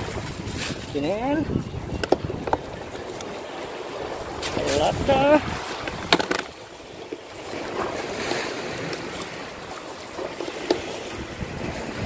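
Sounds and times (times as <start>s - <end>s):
waves washing against rocks: 0.0s - 12.0s
wind buffeting microphone: 0.0s - 12.0s.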